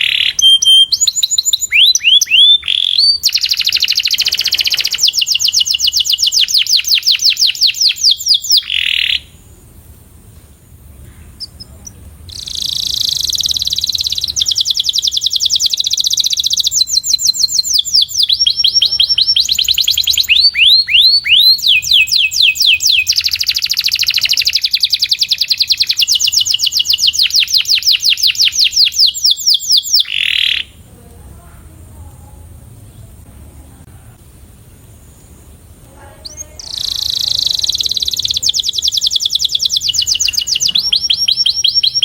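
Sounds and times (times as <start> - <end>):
canary singing trills: 0.0 - 9.8, 10.7 - 30.9, 34.5 - 42.0.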